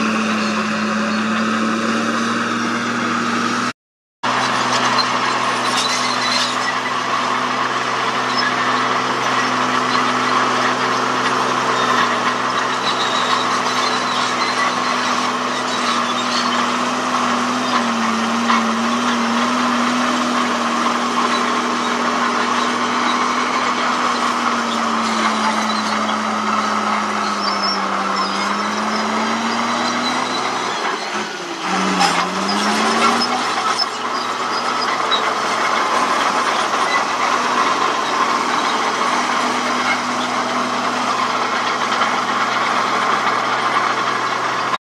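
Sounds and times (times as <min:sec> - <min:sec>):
bulldozer diesel engine under load: 0:00.0 - 0:44.8.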